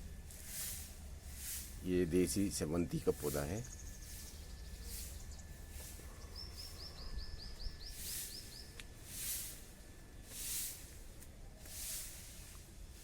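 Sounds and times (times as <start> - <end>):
high hiss: 0.0 - 6.9, 7.8 - 13.0.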